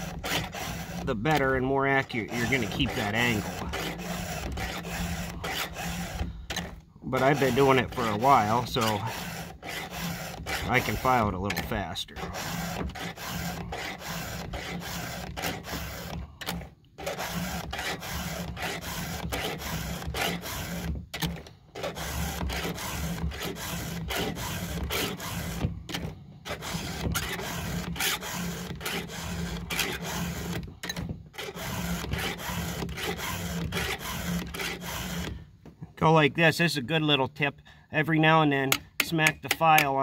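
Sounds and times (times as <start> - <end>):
file rasping on chainsaw chain: 0.0 - 35.5, 38.3 - 40.0.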